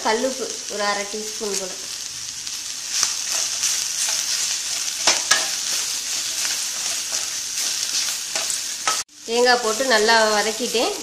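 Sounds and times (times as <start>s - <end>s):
greens sizzling in hot oil: 0.0s - 11.0s.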